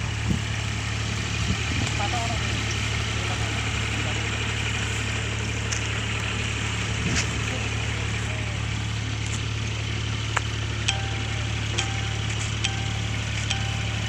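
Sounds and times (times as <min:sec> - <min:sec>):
diesel engine humming: 0:00.0 - 0:14.0.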